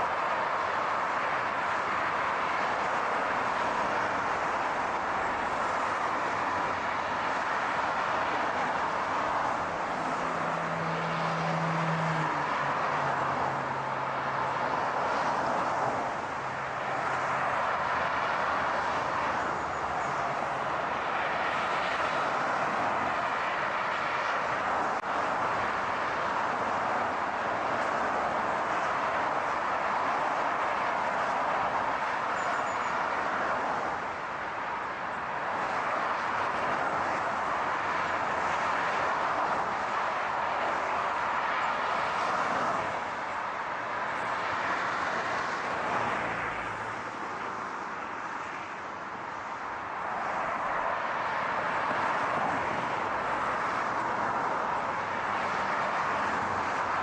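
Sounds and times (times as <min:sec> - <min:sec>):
car road noise rushing: 0:00.0 - 0:57.0.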